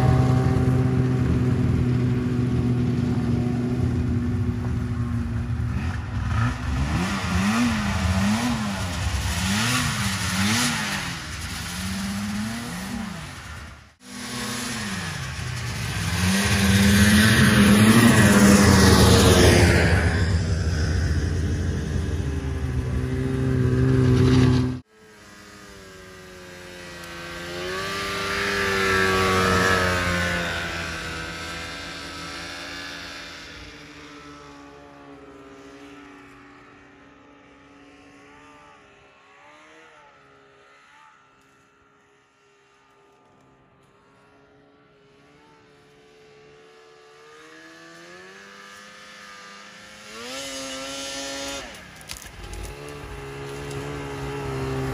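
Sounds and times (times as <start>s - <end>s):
distant snowmobile engine: 0.0s - 54.9s
snowmobile engine running close: 0.0s - 54.9s.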